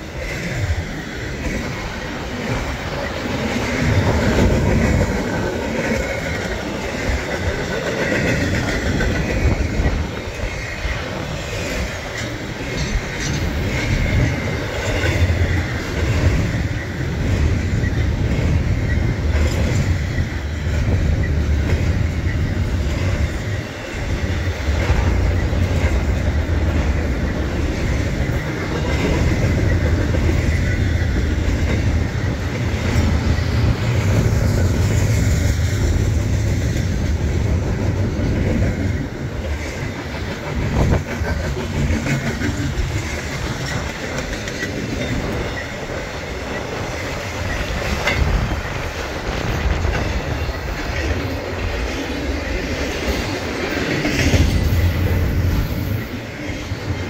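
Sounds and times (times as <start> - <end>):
steel wheels rumbling on rail: 0.0 - 57.0
wheels clacking on track: 0.0 - 57.0.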